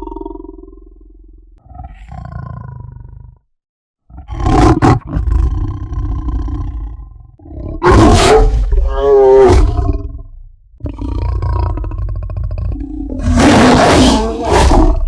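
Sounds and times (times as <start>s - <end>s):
big cat roars: 0.0s - 3.4s, 4.1s - 15.0s.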